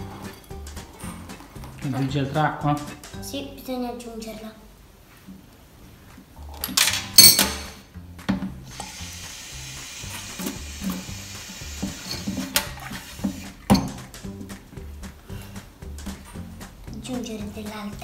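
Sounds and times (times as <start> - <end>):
soft background music with beat: 0.0 - 3.6, 7.2 - 18.0.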